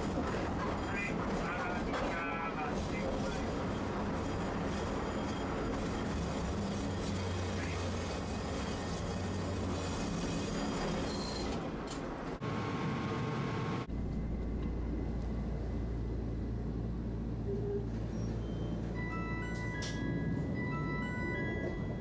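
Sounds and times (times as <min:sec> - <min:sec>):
low steady tram hum: 0:00.0 - 0:22.0
streetcar running on rails: 0:00.0 - 0:22.0.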